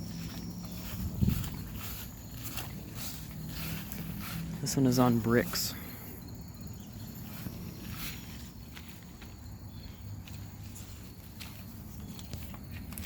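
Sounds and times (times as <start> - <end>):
footsteps: 0.0 - 13.0
low outdoor hum: 0.0 - 13.0.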